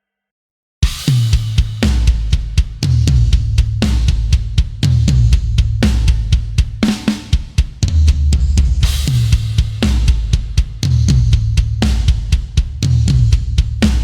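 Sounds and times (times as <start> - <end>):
metal drum groove: 0.8 - 14.0.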